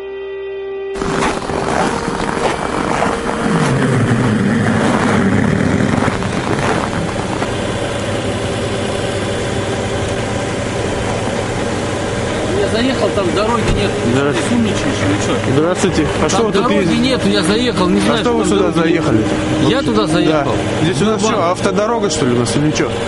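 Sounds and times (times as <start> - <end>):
car engine running: 1.0 - 23.0.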